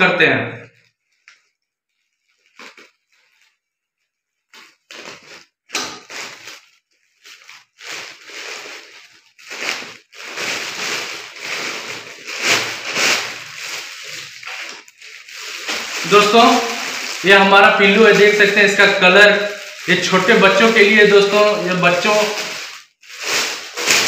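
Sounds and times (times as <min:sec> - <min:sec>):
plastic mailer bag tearing: 0:00.6 - 0:24.0.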